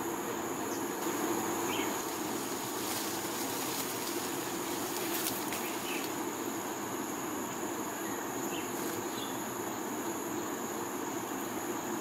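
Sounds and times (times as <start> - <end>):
distant traffic hum: 0.0 - 11.9
insect drone with high tones: 0.0 - 12.0.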